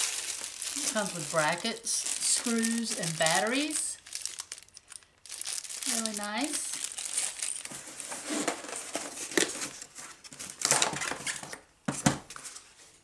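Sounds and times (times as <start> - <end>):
packaging crinkling: 0.0 - 11.6.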